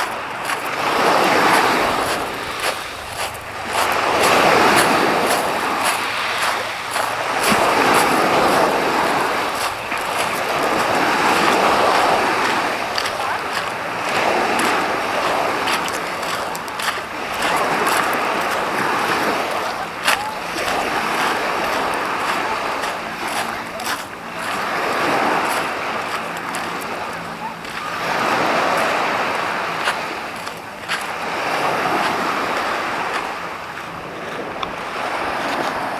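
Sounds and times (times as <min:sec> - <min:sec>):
waves washing on shingle beach: 0:00.0 - 0:35.9.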